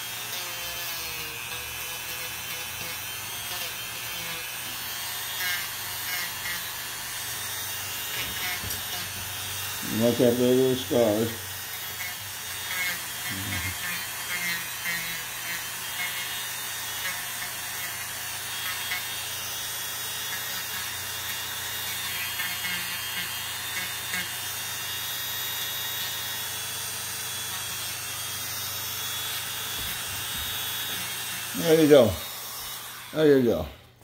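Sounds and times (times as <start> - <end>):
rotary tool grinding with a whine: 0.0 - 34.0.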